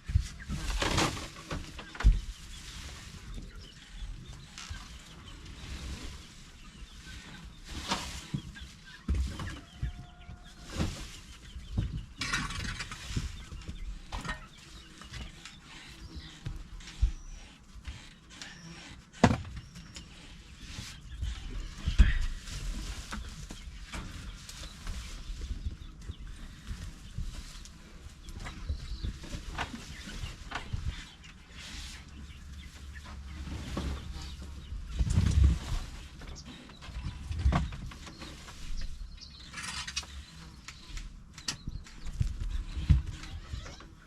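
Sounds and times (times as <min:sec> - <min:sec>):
chickens clucking: 0:00.1 - 0:44.0.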